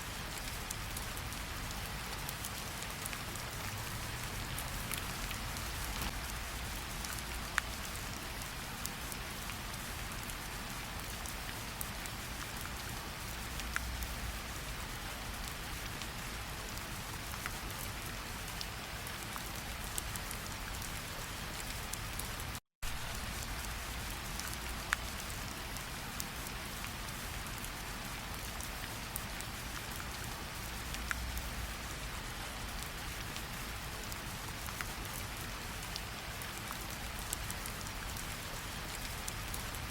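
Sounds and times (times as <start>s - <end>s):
rain on leaves and water: 0.0s - 39.9s.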